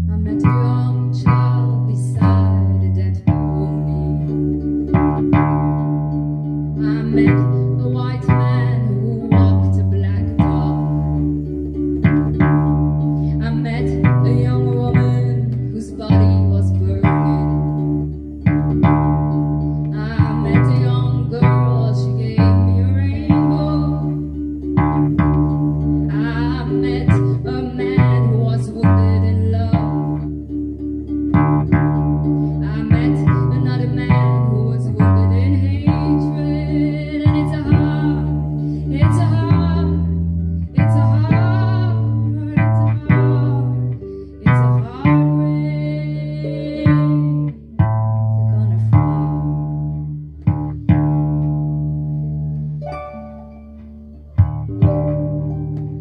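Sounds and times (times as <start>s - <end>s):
plucked ukulele low notes: 0.0s - 56.0s.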